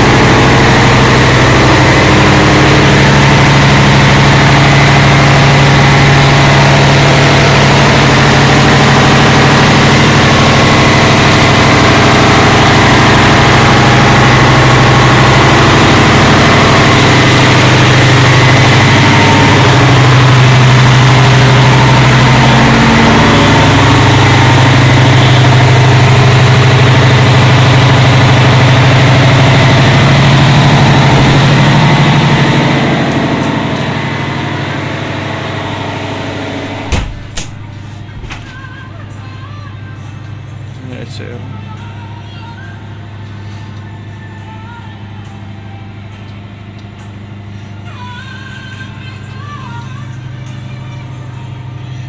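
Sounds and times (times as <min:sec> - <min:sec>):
ship engine room drone: 0:00.0 - 0:52.0.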